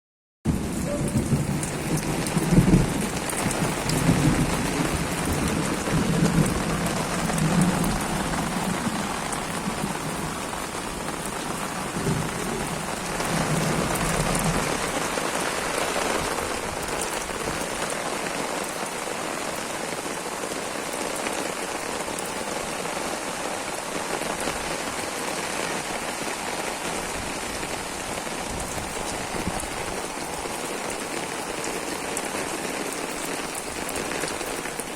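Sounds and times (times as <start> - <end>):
heavy rain falling: 0.5 - 34.9.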